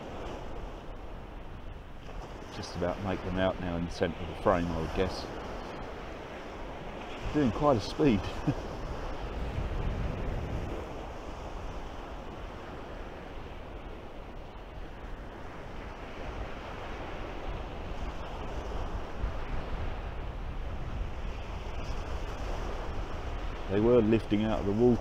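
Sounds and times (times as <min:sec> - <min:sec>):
wind: 0:00.0 - 0:25.0
waves breaking on pebble beach: 0:01.9 - 0:25.0.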